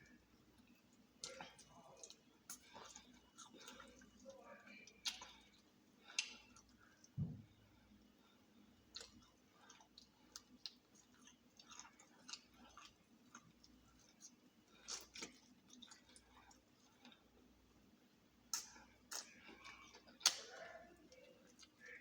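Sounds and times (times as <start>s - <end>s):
chewing crunches and mouth clicks: 0.0s - 7.2s, 7.8s - 17.6s, 18.4s - 22.0s.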